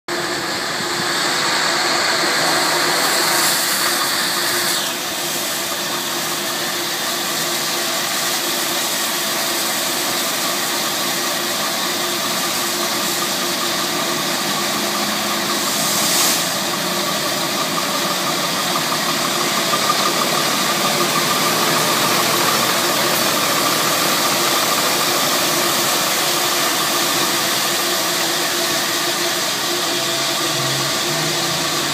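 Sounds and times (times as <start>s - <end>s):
diesel truck engine idling: 0.1s - 31.9s
water jets spraying: 1.0s - 11.2s, 11.8s - 31.9s.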